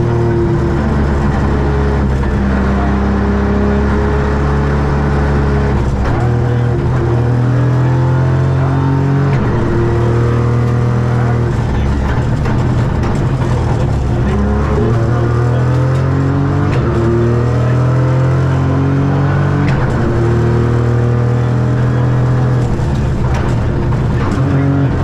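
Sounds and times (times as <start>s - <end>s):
car engine at full throttle: 0.0s - 25.0s.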